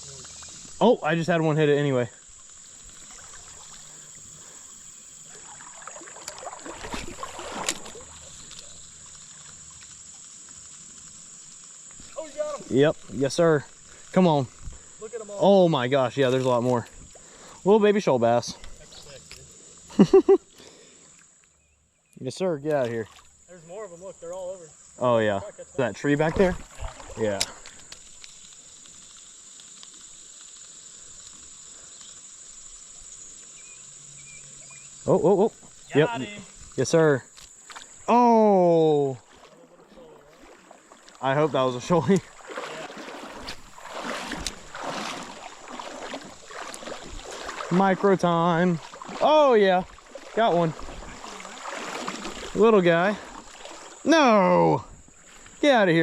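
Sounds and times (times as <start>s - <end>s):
flowing creek: 0.0s - 21.4s, 22.2s - 56.0s
water splashing and sloshing: 0.0s - 21.4s, 22.6s - 24.3s, 25.9s - 33.1s, 34.6s - 56.0s
high-pitched hiss: 0.0s - 56.0s
high-pitched insect chorus: 0.0s - 56.0s.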